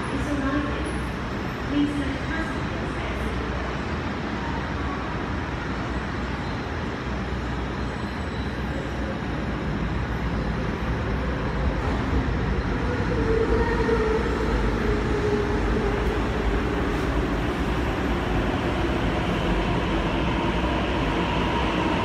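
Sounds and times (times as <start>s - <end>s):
train arriving: 0.0s - 22.0s.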